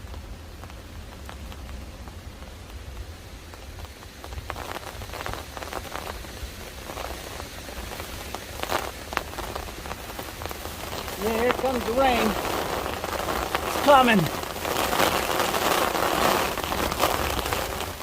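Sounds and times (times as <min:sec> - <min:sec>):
low wind rumble: 0:00.0 - 0:18.0
rain patter: 0:00.0 - 0:18.0.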